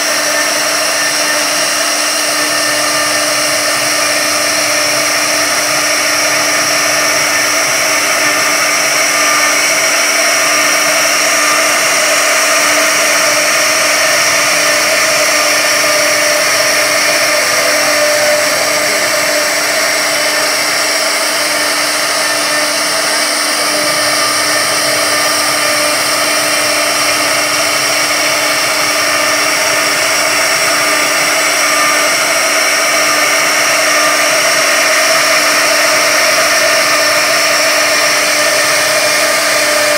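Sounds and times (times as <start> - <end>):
bit carving wood: 0.0 - 39.9
router spindle whining: 0.0 - 39.9.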